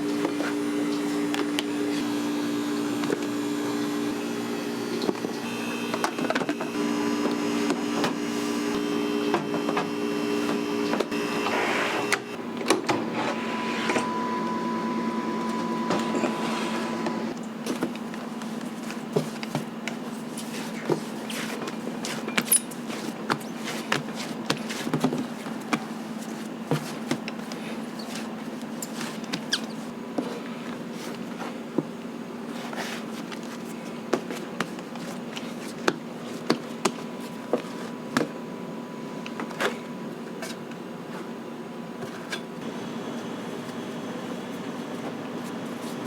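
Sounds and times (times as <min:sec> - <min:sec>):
equipment hum: 0:00.0 - 0:46.0.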